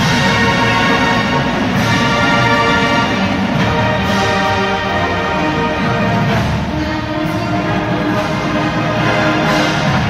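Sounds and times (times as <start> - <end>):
marching band playing: 0.0 - 10.0.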